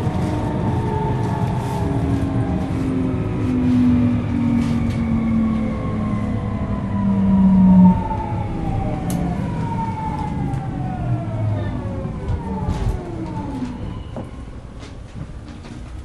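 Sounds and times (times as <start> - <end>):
train motor whine gliding downward: 0.0 - 14.5
wheels rumbling on track: 0.0 - 16.0.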